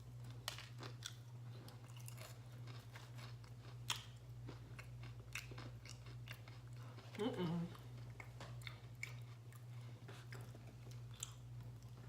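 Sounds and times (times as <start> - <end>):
steady low hum: 0.0 - 12.0
chewing food: 0.1 - 12.0.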